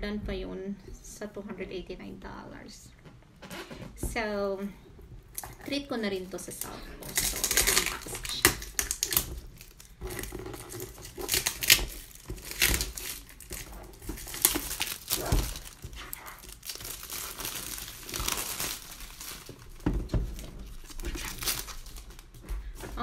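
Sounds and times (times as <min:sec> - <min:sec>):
plastic wrapping crinkling: 0:03.4 - 0:23.0.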